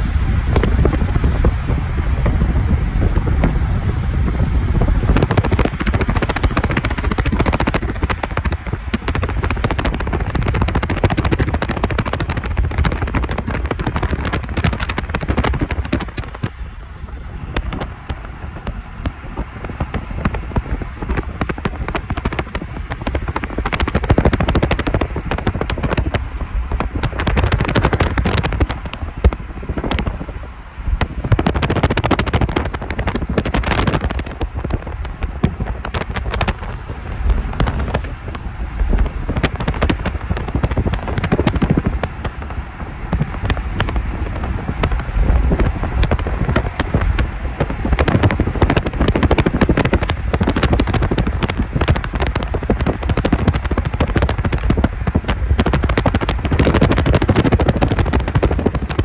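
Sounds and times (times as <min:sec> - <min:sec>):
storm wind buffeting microphone: 0:00.0 - 0:59.0.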